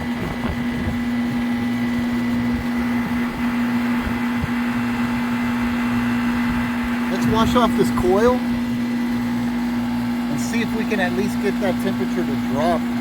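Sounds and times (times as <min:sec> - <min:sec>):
compressor hum: 0:00.0 - 0:13.0
condenser fan whoosh: 0:00.0 - 0:13.0.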